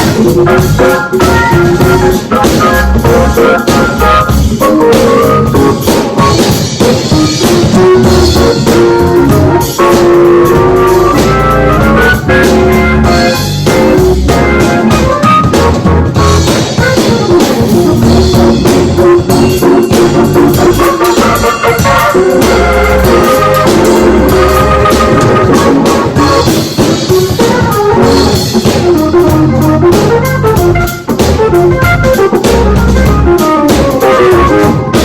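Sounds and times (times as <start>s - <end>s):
drum kit playing a steady beat: 0.0s - 35.0s
organ: 0.0s - 35.0s.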